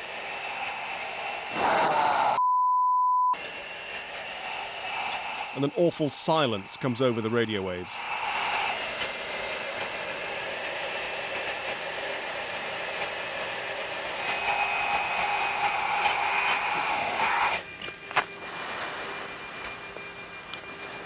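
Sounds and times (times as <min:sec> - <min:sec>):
cockpit hiss and hum: 0:00.0 - 0:02.4, 0:03.4 - 0:21.0.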